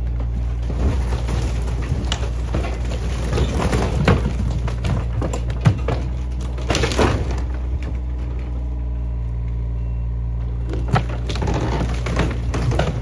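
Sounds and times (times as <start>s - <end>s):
wooden boards cracking and snapping: 0.0s - 8.5s, 10.7s - 13.0s
excavator engine running: 0.0s - 13.0s.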